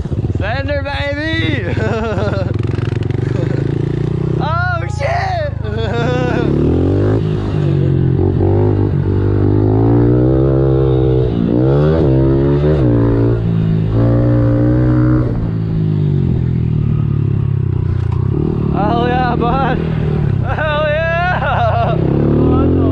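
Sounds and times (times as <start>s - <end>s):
pit bike engine revving: 0.0s - 22.9s.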